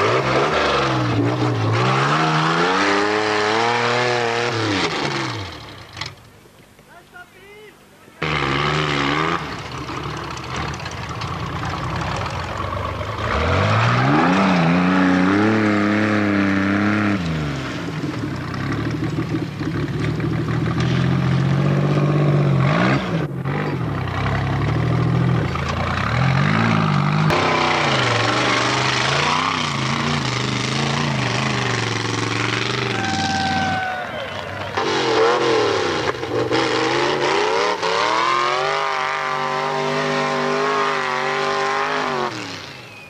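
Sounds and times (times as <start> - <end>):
car engines revving hard: 0.0 - 6.0, 8.2 - 33.9, 34.6 - 42.9.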